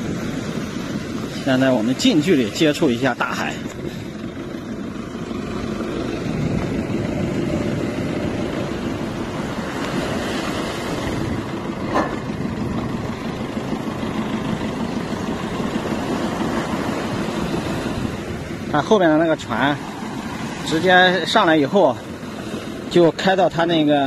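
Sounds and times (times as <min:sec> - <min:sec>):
surf breaking on shore: 0:00.0 - 0:24.0
tractor engine running: 0:00.0 - 0:24.0.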